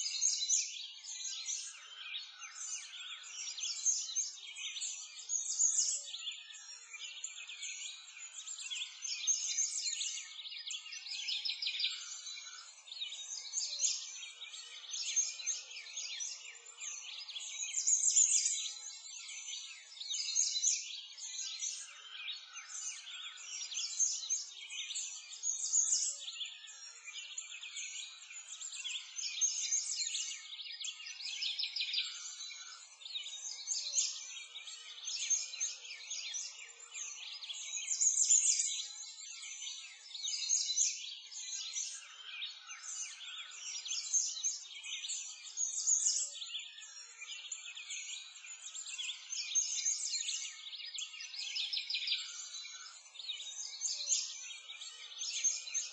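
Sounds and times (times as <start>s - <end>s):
small birds chirping and singing: 0.0s - 55.9s.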